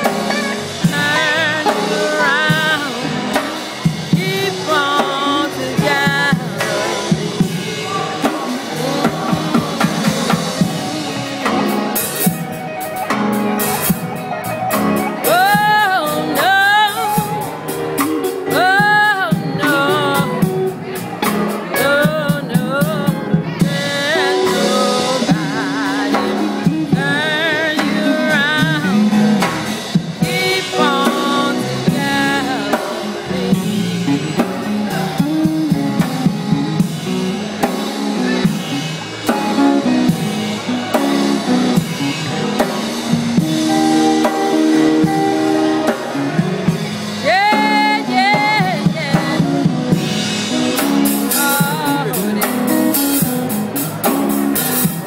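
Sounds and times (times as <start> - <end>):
voices singing: 0.0 - 12.7, 13.4 - 38.8, 39.4 - 55.0
drum kit steady beat: 0.0 - 55.0
electric guitar playing: 0.0 - 55.0
keyboard playing: 0.0 - 55.0.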